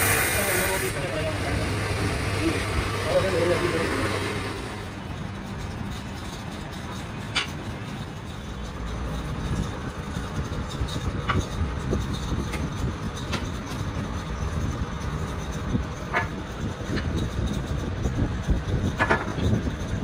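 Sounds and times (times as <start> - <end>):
low continuous rumble: 0.0 - 20.0.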